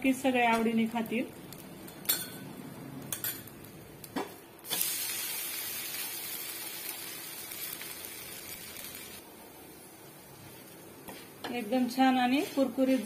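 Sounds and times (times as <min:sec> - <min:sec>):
dosa sizzling on a griddle: 0:00.4 - 0:13.0.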